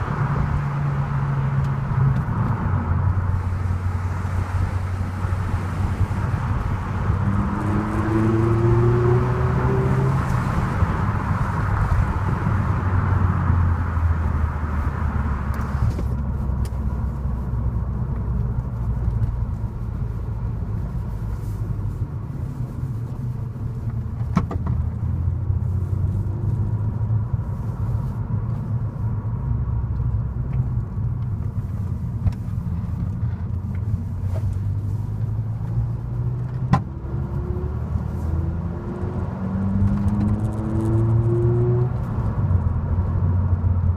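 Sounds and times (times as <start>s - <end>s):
car engine from inside cabin: 0.0s - 43.9s.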